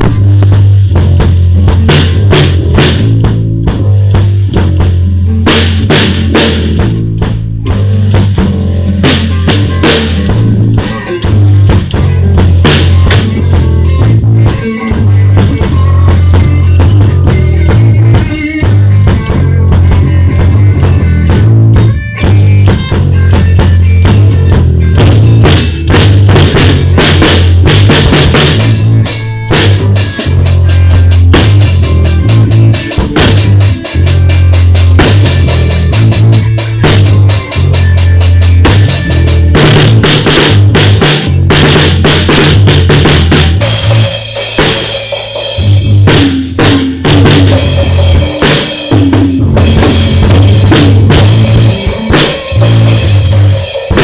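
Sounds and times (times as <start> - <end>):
rock band playing loudly: 0.0 - 54.0.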